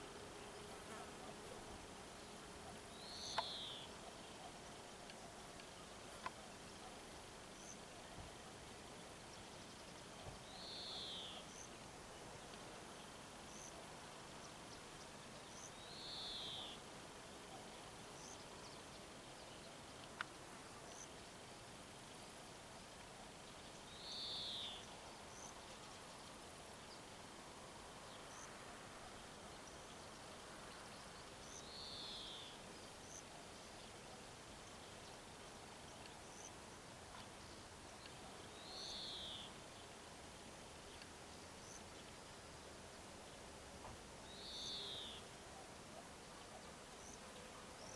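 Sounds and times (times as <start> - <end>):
steady background hiss: 0.0 - 47.9.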